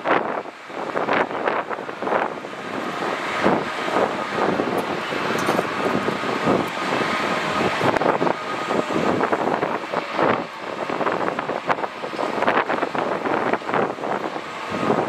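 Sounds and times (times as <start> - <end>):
distant jet engines: 0.0 - 15.0
wind gusts on microphone: 0.0 - 15.0.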